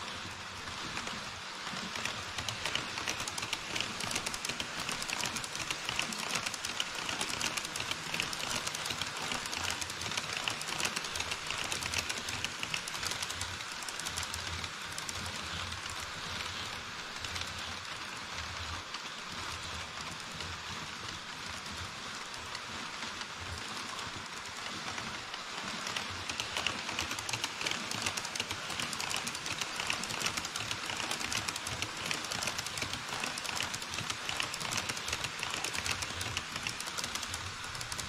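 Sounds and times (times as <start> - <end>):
model train wheels clicking: 0.0 - 38.0.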